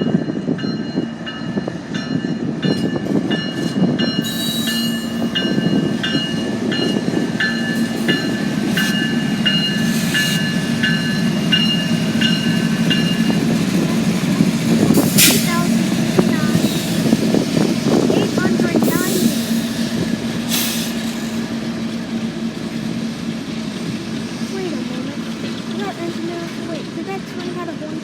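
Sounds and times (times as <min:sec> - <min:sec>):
freight train rumbling on rails: 0:00.0 - 0:28.0.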